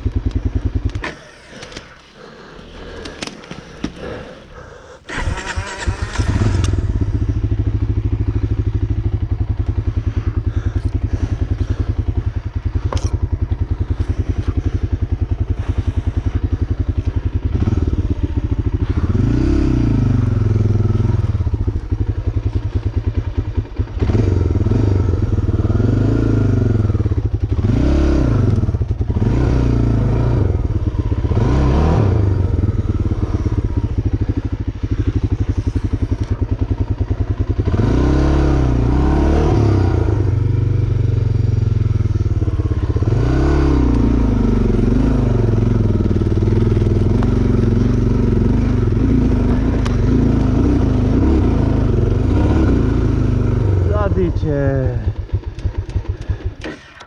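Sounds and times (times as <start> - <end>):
vehicle engine revving under load: 5.1 - 22.6, 23.7 - 54.4.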